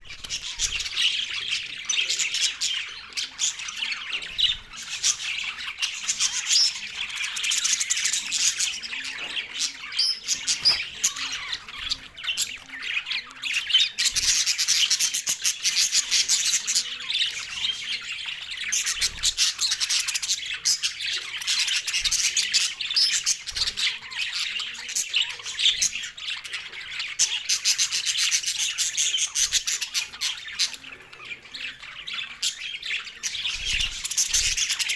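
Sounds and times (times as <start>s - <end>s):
budgerigars chattering and squawking: 0.0s - 34.9s.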